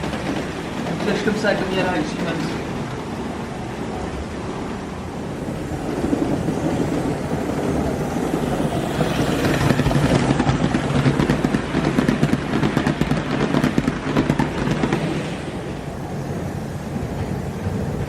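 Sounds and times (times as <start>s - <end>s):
model steam locomotive rumbling: 0.0s - 18.0s.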